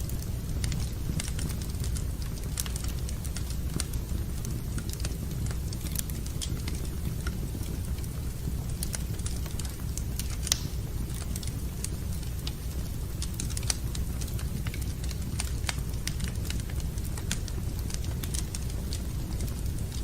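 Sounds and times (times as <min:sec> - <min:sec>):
low rumble of fire: 0:00.0 - 0:20.0
wood fire crackling: 0:00.0 - 0:20.0.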